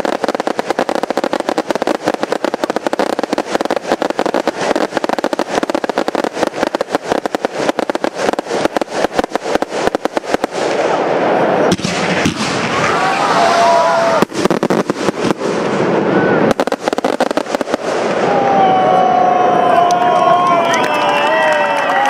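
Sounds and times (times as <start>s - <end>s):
fireworks cracking and banging: 0.0s - 19.4s.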